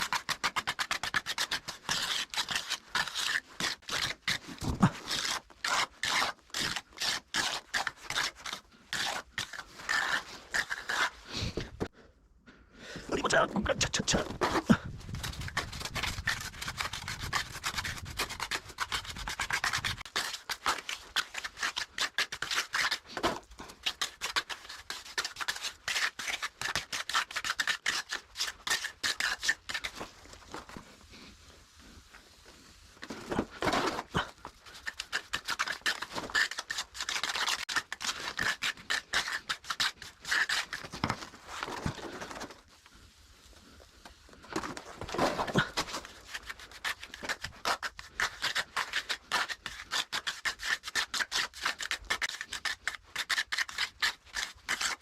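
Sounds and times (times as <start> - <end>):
trowel scraping mortar: 0.0 - 11.9, 13.2 - 42.8, 44.0 - 55.0.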